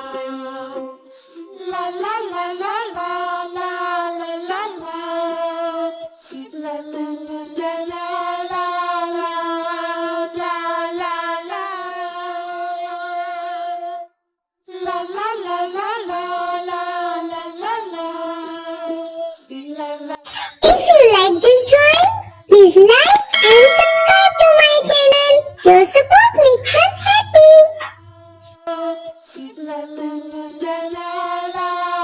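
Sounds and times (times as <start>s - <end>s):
child singing: 0.0s - 13.7s, 14.7s - 32.0s.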